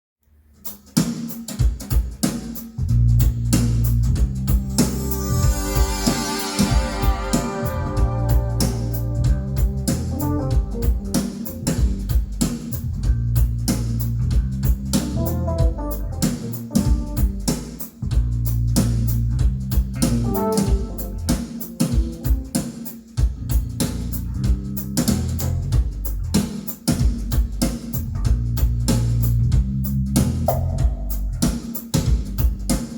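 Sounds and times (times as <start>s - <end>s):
drum kit beat: 0.6s - 32.9s
bass guitar: 2.8s - 22.6s, 23.2s - 32.8s.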